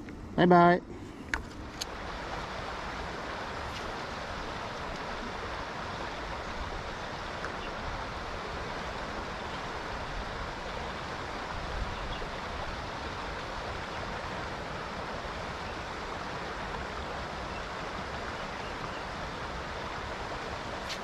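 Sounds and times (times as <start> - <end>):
river water rushing: 1.3 - 21.0.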